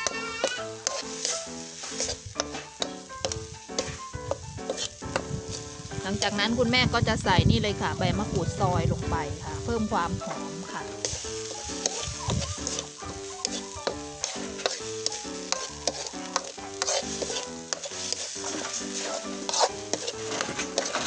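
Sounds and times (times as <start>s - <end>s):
background music: 0.0s - 21.0s
paste sizzling in oil: 0.0s - 21.0s
spatula scraping wok: 0.0s - 21.0s.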